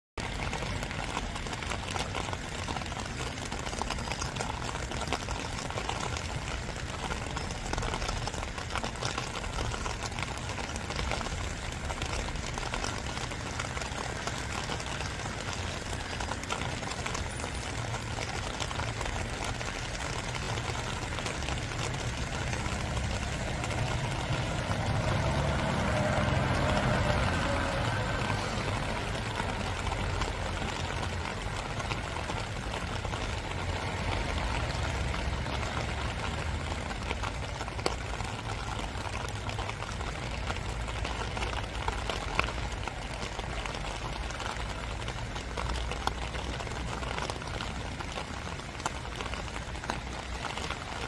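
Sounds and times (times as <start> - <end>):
steady rain falling: 0.2 - 51.0.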